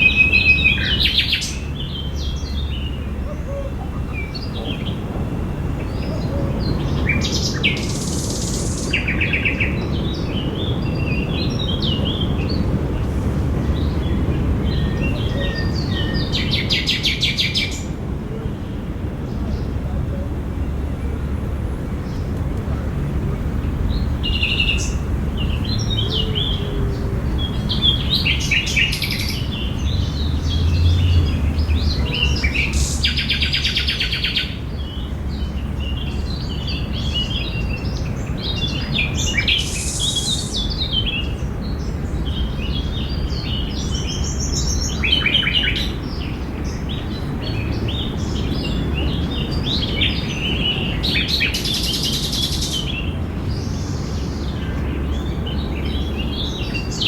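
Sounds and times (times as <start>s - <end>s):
birds chirping and singing: 0.0s - 18.2s, 23.4s - 57.0s.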